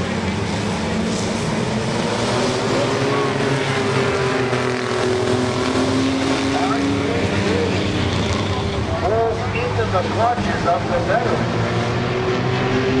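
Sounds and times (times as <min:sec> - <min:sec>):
racing truck engines droning: 0:00.0 - 0:13.0.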